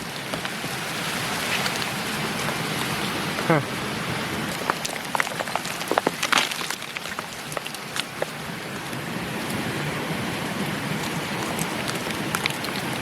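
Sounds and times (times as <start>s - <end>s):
rocks clicking and knocking: 0.0s - 9.6s, 10.9s - 13.0s
mountain stream rushing: 0.0s - 13.0s.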